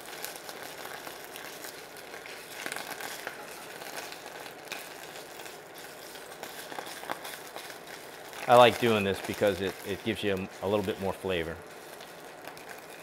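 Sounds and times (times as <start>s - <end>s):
faint crackles: 0.0s - 13.0s
paste sizzling in pan: 0.0s - 13.0s.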